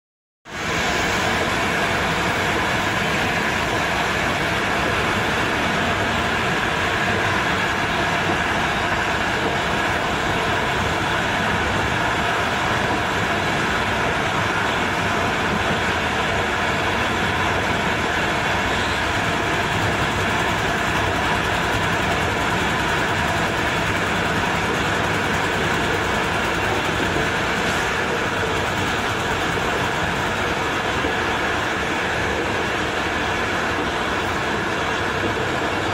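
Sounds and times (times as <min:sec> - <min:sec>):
train running on track: 0:00.4 - 0:35.9.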